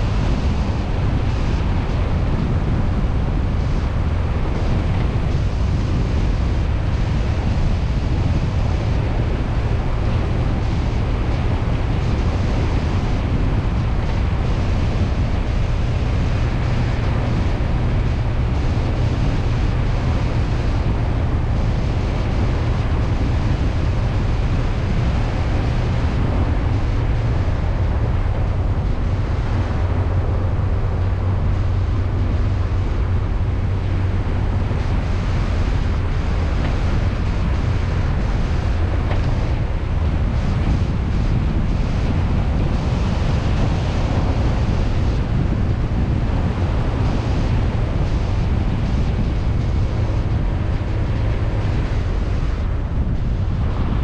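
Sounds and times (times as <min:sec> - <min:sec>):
car road and wind rumble: 0:00.0 - 0:54.0.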